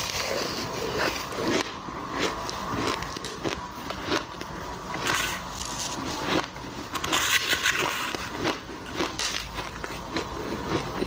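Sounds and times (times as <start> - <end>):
crushed ice being chewed: 0.0 - 11.0.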